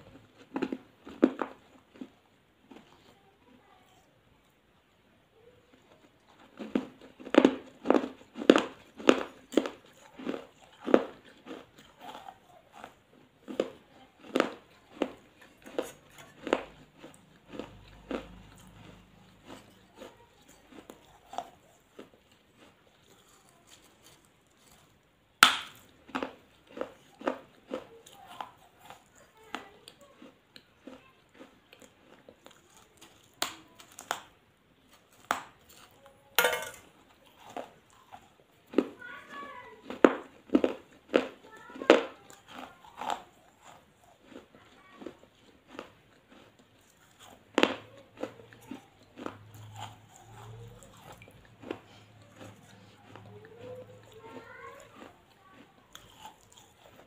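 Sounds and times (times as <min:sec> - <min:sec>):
person chewing and biting: 0:00.0 - 0:03.0, 0:06.1 - 0:39.0, 0:39.8 - 0:57.0.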